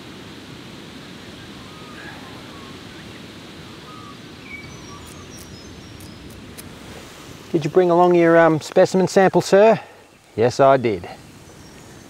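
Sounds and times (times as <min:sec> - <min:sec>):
river flowing: 0:00.0 - 0:12.0
birds chirping: 0:01.0 - 0:12.0.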